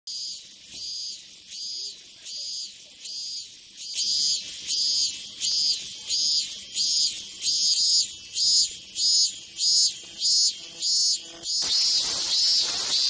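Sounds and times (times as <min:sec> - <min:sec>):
cicada buzzing pulses: 0:00.1 - 0:13.0.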